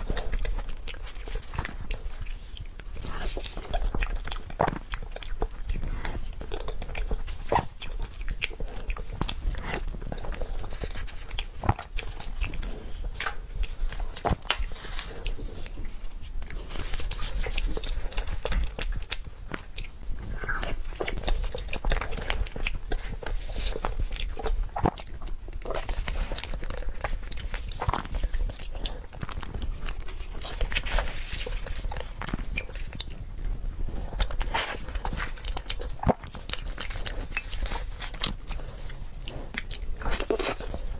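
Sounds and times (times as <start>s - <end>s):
close chewing and eating: 0.0s - 40.9s.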